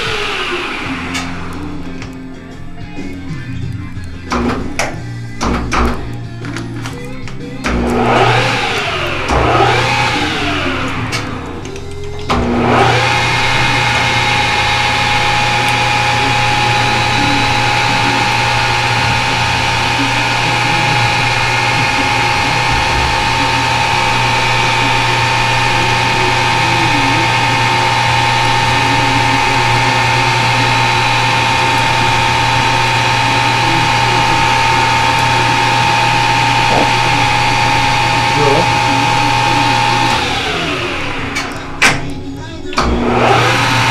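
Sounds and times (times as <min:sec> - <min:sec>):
lathe humming: 0:00.0 - 0:05.4, 0:07.4 - 0:43.9.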